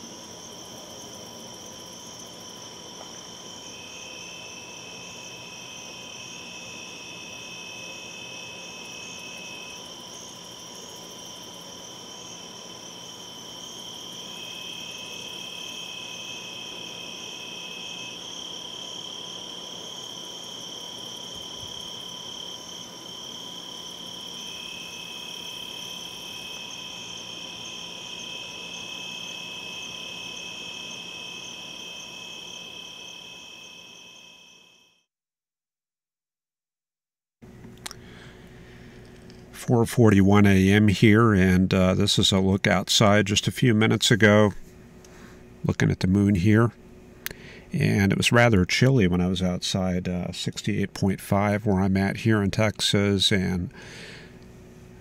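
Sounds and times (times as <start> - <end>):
crickets and insects chirping: 0.0 - 35.1, 37.5 - 55.0.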